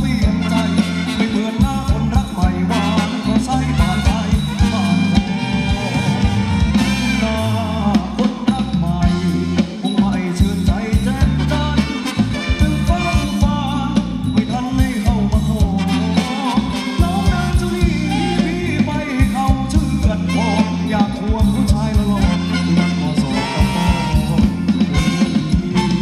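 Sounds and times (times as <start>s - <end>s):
drum and bass beat: 0.0s - 26.0s
live band dance music: 0.0s - 26.0s
person singing: 0.0s - 26.0s.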